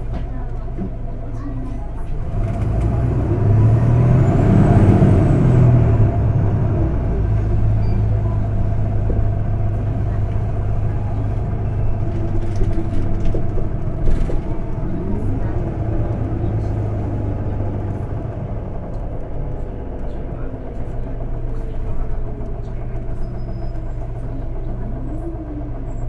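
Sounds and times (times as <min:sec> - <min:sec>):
bus diesel engine droning: 0:00.0 - 0:26.0.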